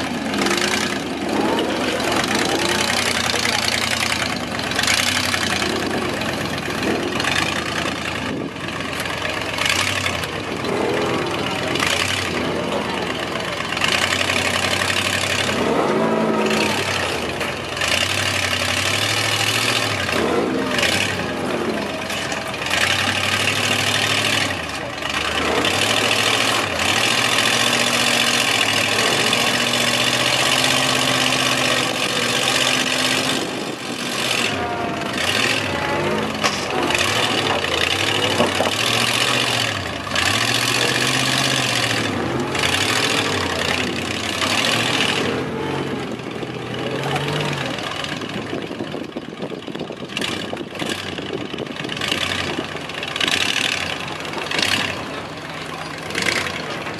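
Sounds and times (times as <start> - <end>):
buggy engine revving: 0.0 - 56.9.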